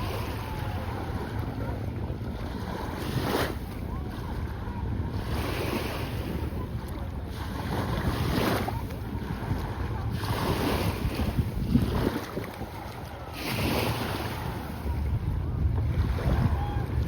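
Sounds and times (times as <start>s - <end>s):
sea waves breaking on shore: 0.0s - 17.0s
wind on microphone: 0.0s - 17.0s.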